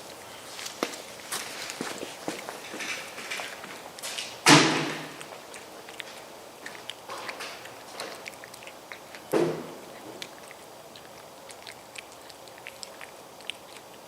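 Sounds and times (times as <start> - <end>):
cat chewing food: 0.0 - 14.0.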